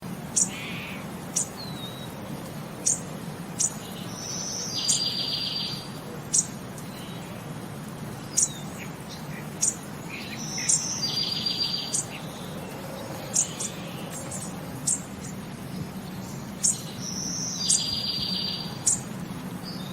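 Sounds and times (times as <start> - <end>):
small birds chirping: 0.0 - 19.9
steady low hum: 0.0 - 19.9
buzzy bird trill: 0.3 - 2.2, 2.8 - 7.6, 8.2 - 19.9.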